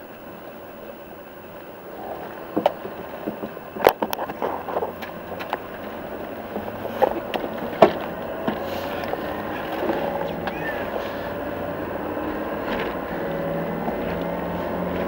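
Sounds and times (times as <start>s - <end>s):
vehicle interior rumble: 0.0s - 15.0s.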